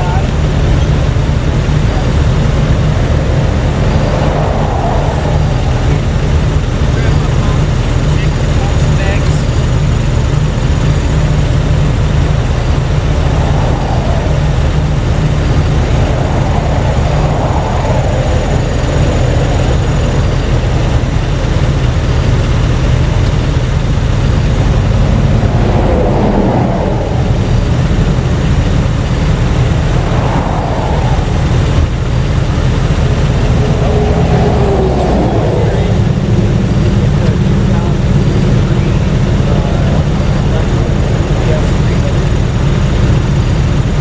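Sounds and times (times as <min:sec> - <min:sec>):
traffic swooshing past: 0:00.0 - 0:09.3, 0:10.5 - 0:43.6
vehicle engine idling: 0:00.0 - 0:44.0.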